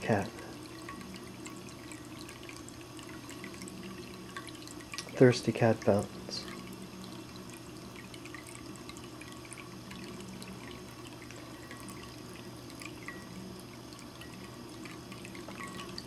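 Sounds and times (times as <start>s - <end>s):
steady low hum: 0.0s - 16.0s
water trickling into bowl: 0.0s - 16.0s.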